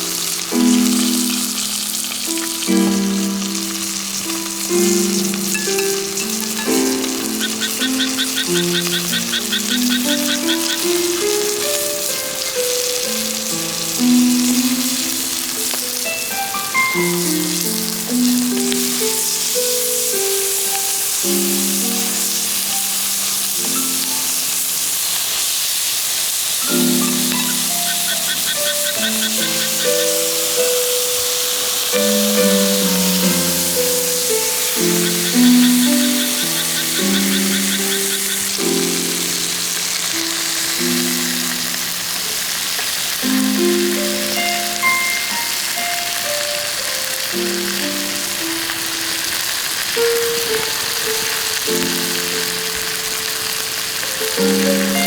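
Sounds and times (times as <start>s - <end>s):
slow chord music: 0.0s - 24.8s, 26.6s - 49.2s, 49.9s - 55.0s
fish sizzling over fire: 0.0s - 55.0s.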